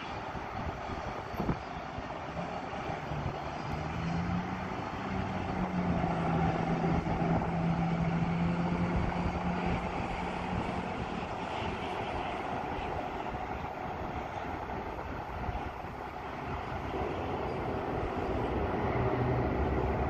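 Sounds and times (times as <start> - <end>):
electric locomotive rumble: 0.0 - 20.0.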